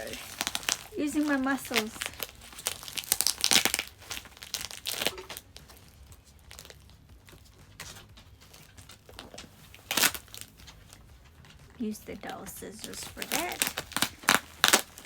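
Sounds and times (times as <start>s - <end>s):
plastic bag and tape crinkling: 0.0s - 15.0s.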